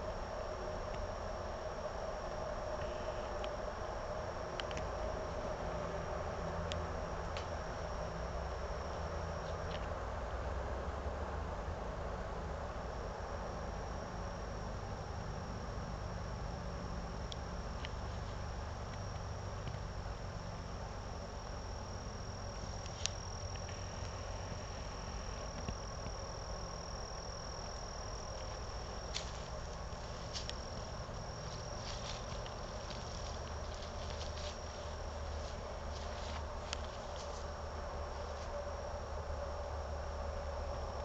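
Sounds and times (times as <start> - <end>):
insects droning: 0.0 - 41.0
low rumbling noise: 0.0 - 41.0.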